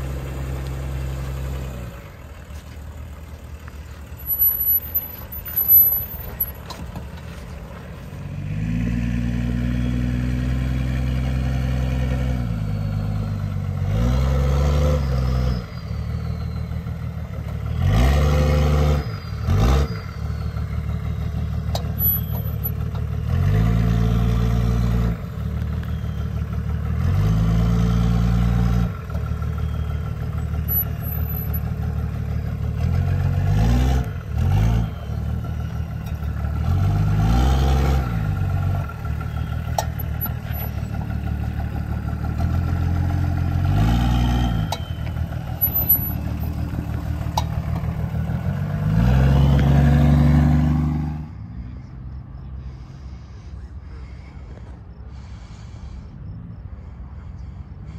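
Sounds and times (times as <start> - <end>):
diesel engine revving: 0.0 - 57.9.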